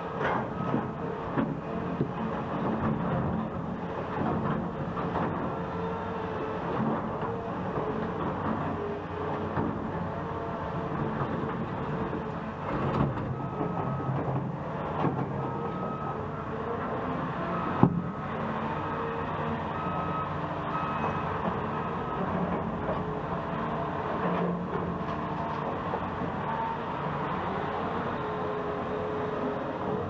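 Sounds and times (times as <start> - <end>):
heavy diesel machinery rumbling: 0.0 - 30.0.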